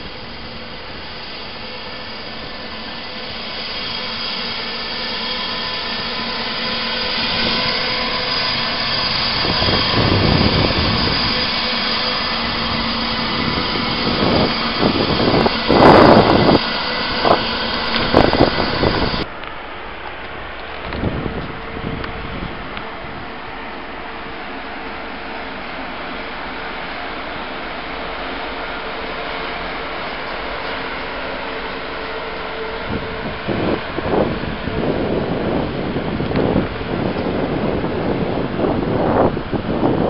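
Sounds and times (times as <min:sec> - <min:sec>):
electric train whine and hiss: 0:00.0 - 0:40.0.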